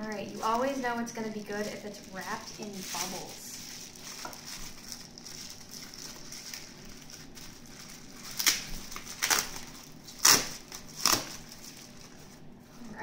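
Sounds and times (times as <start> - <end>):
bubble wrap pouch crinkling: 0.0 - 13.0.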